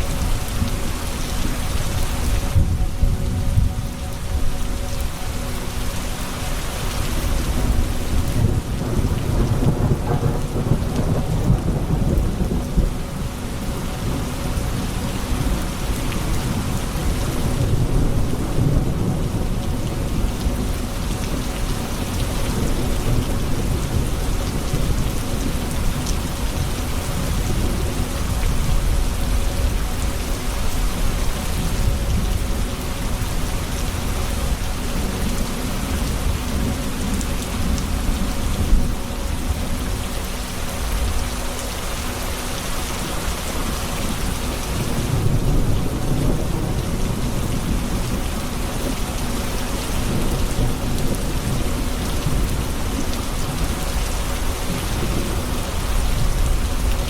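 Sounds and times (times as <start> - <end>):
low rolling thunder: 0.0 - 41.5, 43.2 - 57.0
rain falling: 0.0 - 57.0.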